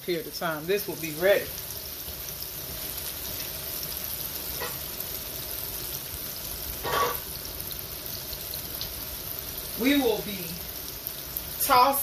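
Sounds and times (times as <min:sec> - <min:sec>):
cauliflower sizzling in grease: 0:00.0 - 0:12.0.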